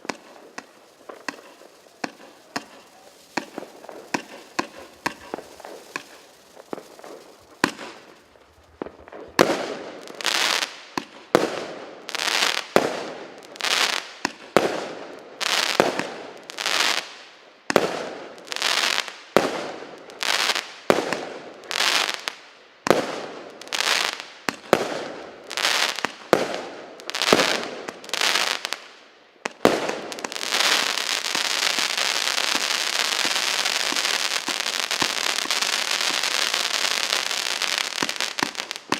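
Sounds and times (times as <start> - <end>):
firework bangs: 0.0 - 17.1, 22.9 - 28.8, 29.5 - 38.9
dense firework crackling: 0.0 - 28.9, 29.5 - 38.9.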